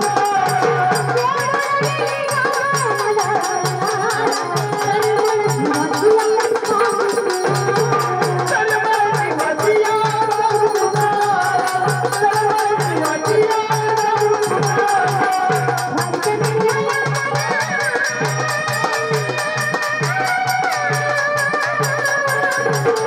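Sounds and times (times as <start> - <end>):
hand drum beat: 0.0 - 23.0.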